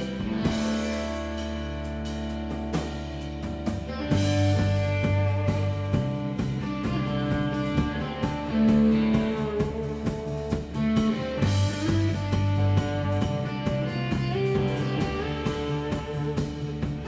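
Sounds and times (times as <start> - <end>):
drum kit beat: 0.0 - 17.0
surf rock electric guitar: 0.0 - 17.0.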